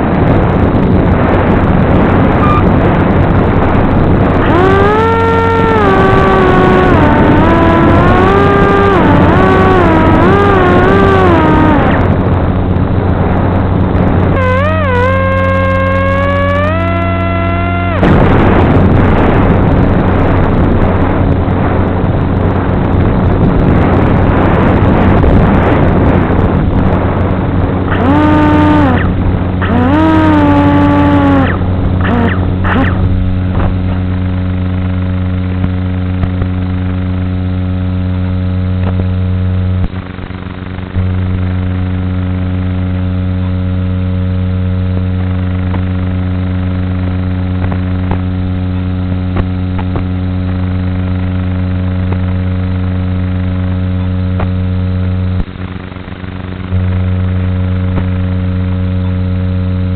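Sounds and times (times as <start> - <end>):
electric motor and propeller humming: 0.0 - 59.9.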